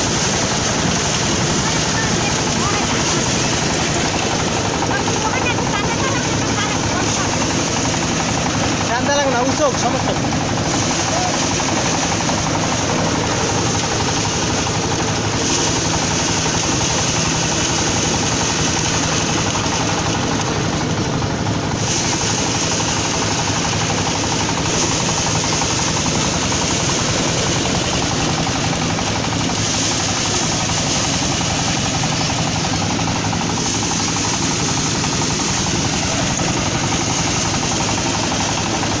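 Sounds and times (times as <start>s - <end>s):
threshing machine roaring and rattling: 0.0s - 39.0s.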